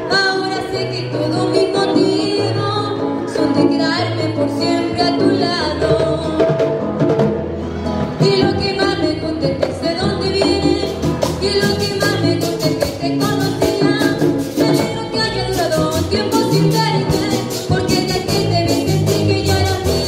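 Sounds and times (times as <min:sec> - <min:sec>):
girl singing into a microphone: 0:00.0 - 0:06.7, 0:08.2 - 0:20.0
acoustic guitar: 0:00.0 - 0:20.0
hand drum: 0:00.0 - 0:20.0.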